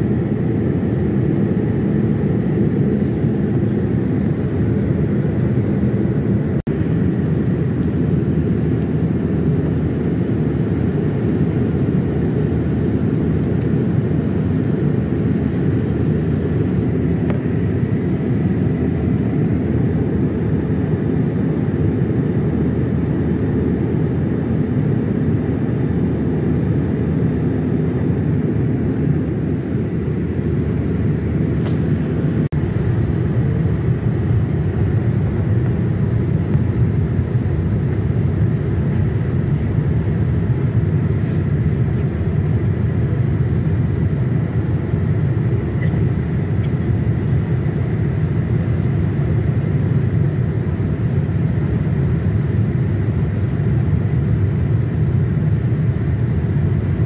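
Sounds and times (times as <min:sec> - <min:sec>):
jet engine rumble inside cabin: 0:00.0 - 0:57.0.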